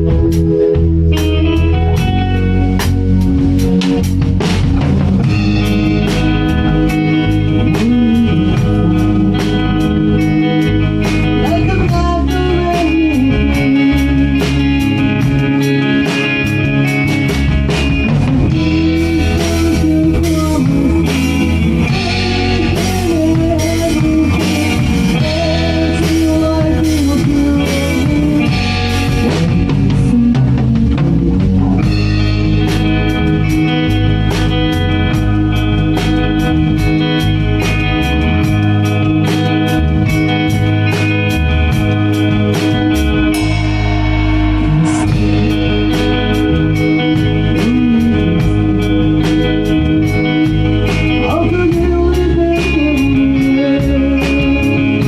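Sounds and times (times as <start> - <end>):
bass: 0.0 - 55.0
drum kit with cymbals: 0.0 - 55.0
electric guitar lead: 0.0 - 55.0.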